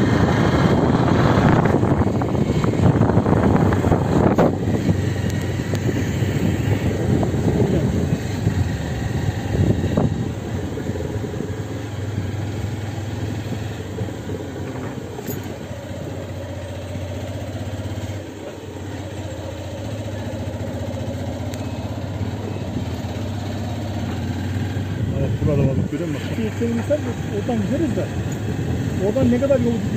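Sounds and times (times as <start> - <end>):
car engine running: 0.0 - 29.9
tyre noise on dirt road: 0.0 - 29.9.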